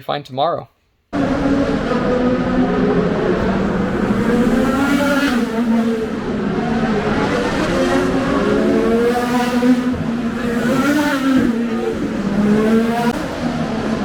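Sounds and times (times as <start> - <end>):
race car engines accelerating: 1.2 - 14.0.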